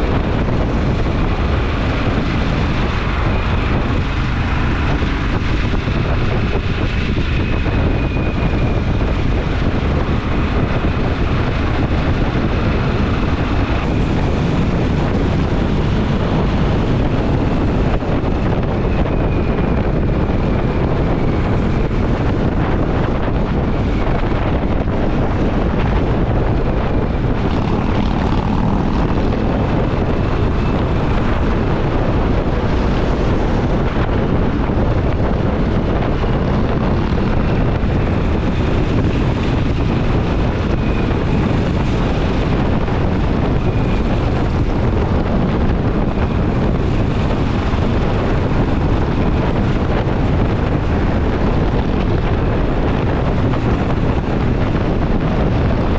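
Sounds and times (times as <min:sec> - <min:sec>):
motorcycle engine cruising: 0:00.0 - 0:55.9
wind rush on microphone: 0:00.0 - 0:55.9.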